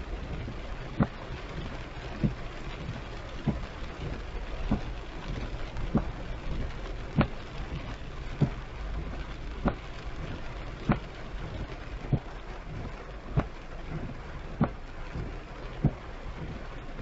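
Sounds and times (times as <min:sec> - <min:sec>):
heavy rain on a car: 0:00.0 - 0:17.0
road noise: 0:00.0 - 0:17.0
windshield wiper thumps: 0:00.1 - 0:17.0.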